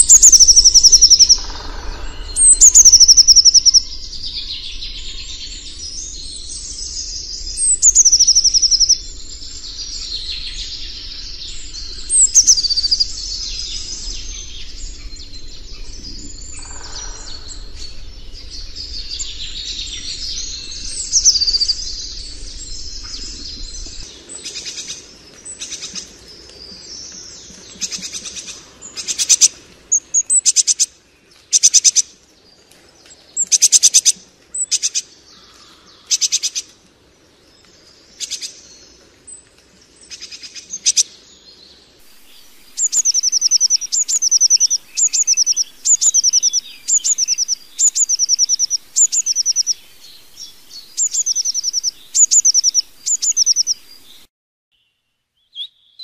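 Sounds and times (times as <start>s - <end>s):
songbirds chattering: 0.0s - 54.3s.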